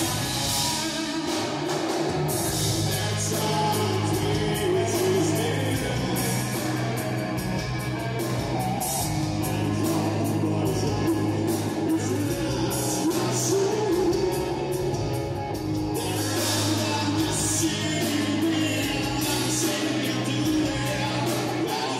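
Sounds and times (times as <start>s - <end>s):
man singing: 0.0s - 1.7s, 2.4s - 21.9s
rock band playing: 0.0s - 21.9s.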